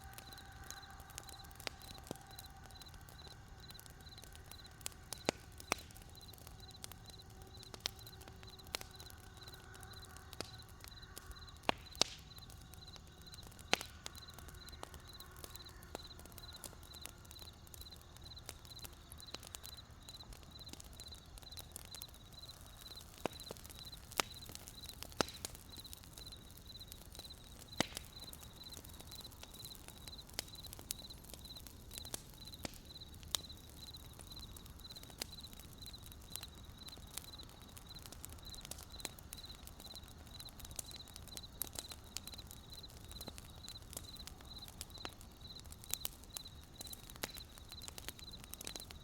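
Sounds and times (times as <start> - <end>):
campfire crackling and popping: 0.0 - 49.0
cricket chirping: 0.0 - 49.0.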